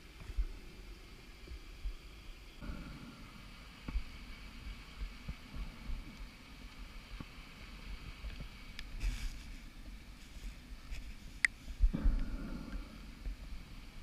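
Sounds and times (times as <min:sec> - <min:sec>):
muffled underwater rumble: 0:00.1 - 0:14.0.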